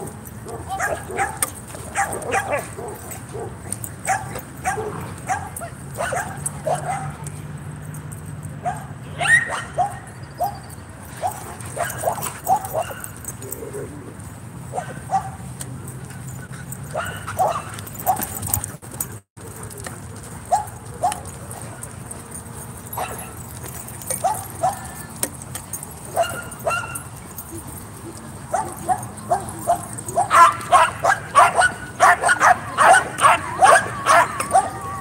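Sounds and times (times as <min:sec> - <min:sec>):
dogs barking and yipping: 0:00.0 - 0:35.0.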